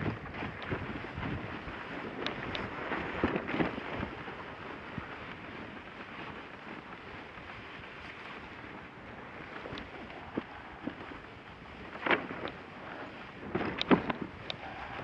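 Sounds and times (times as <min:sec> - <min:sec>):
dogsled rushing over snow: 0:00.0 - 0:15.0
wind on microphone: 0:00.0 - 0:15.0.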